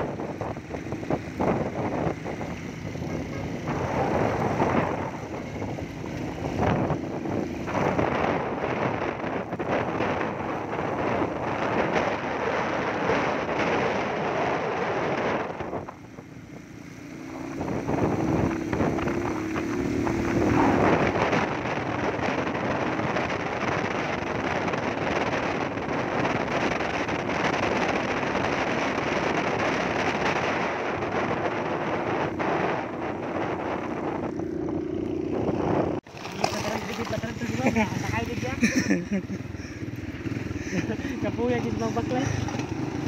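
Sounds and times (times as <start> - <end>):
motorcycle engine hum: 0.0 - 43.0
wind rushing over microphone: 0.0 - 43.0.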